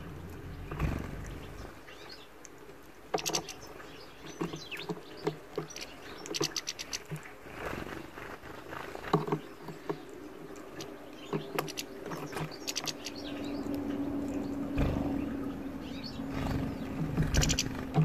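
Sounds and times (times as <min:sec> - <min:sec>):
low background rumble: 0:00.0 - 0:18.0
steady low hum: 0:00.0 - 0:18.0.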